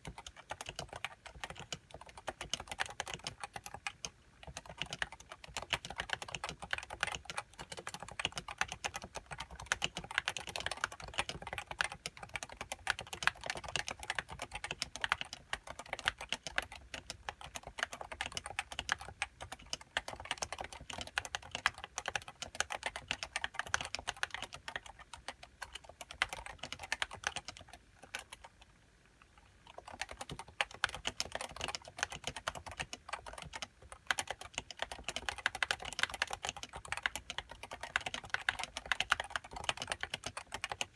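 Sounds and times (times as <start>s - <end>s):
fast typing on keyboard: 0.0s - 28.7s, 29.6s - 40.9s.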